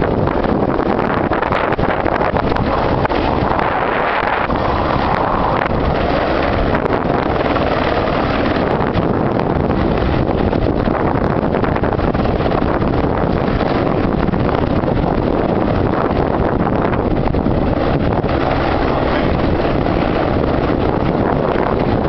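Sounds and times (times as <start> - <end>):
helicopter engine and rotors: 0.0 - 22.0
wind buffeting microphone: 0.0 - 22.0.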